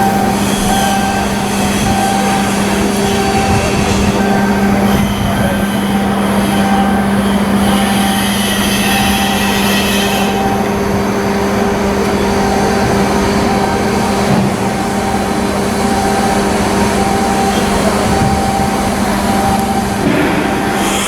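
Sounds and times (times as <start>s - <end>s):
continuous rushing noise: 0.0s - 21.0s
machinery humming: 0.0s - 21.0s.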